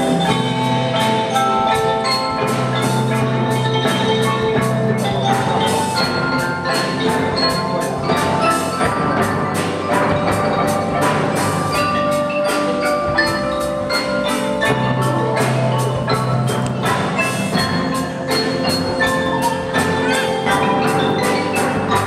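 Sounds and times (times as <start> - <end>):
mallet instruments melody: 0.0 - 22.0
percussion beat of sharp strikes: 0.0 - 22.0.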